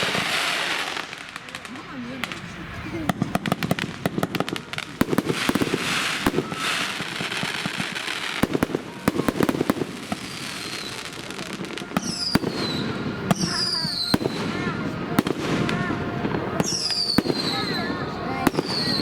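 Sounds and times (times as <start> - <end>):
fireworks crackling: 0.0 - 19.0
fireworks popping and banging: 0.0 - 19.0.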